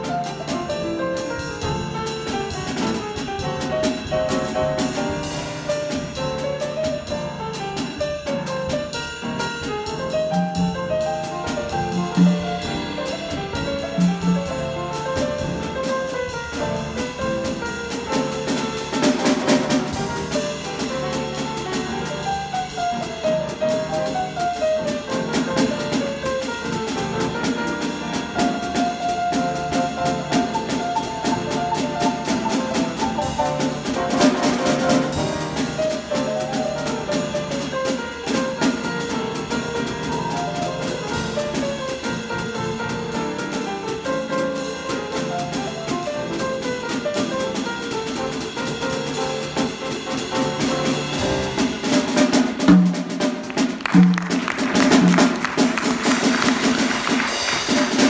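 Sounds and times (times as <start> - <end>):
drum kit played with brushes: 0.0 - 58.0
grand piano: 0.0 - 58.0.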